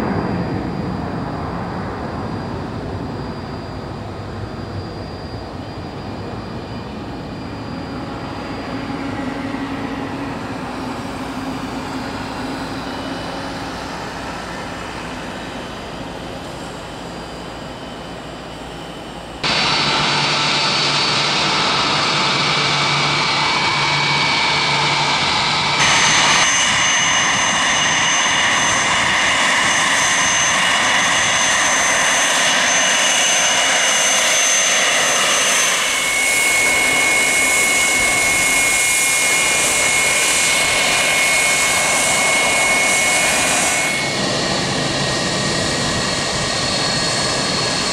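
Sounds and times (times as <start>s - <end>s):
jet engines climbing away: 0.0s - 47.9s
jet taxiing with high whine: 0.0s - 47.9s.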